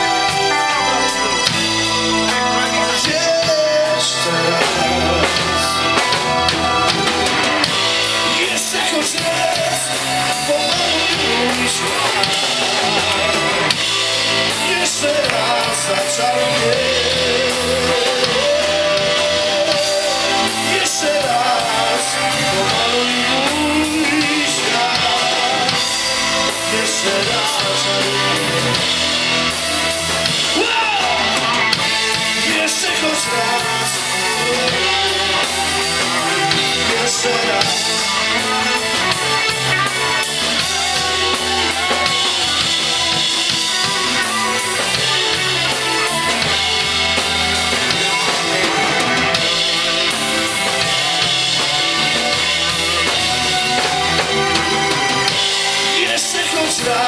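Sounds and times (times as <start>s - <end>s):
drum kit: 0.0s - 57.0s
electric guitar: 0.0s - 57.0s
person singing: 0.0s - 57.0s.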